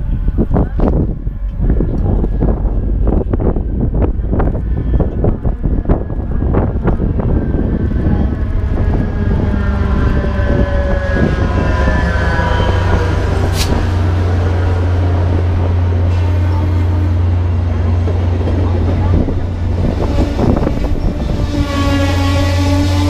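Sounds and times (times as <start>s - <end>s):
diesel locomotive engine drone: 0.0s - 23.0s
wind buffeting microphone: 0.0s - 23.0s.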